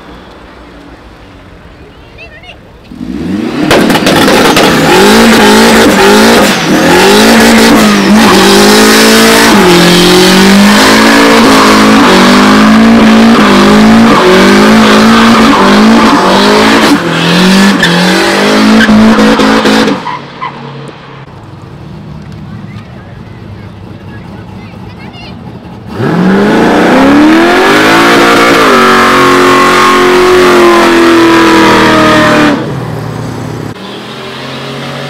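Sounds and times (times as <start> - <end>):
car engine revving: 2.8 - 35.0.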